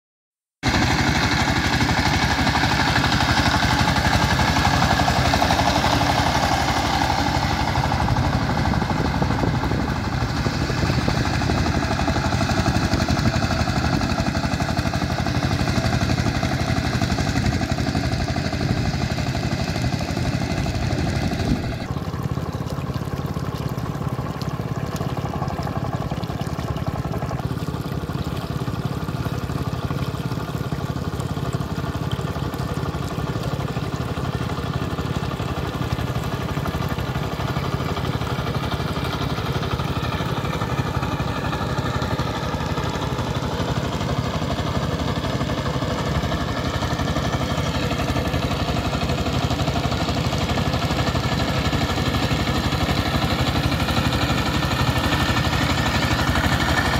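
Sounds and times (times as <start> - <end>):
diesel engine running: 0.6 - 56.9.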